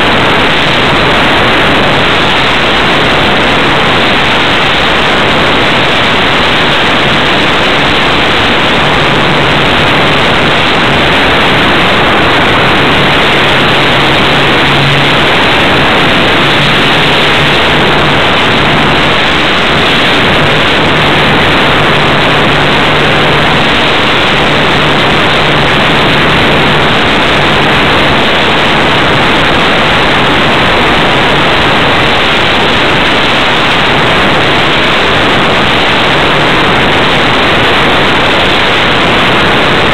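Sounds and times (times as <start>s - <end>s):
rush of air: 0.0s - 39.9s.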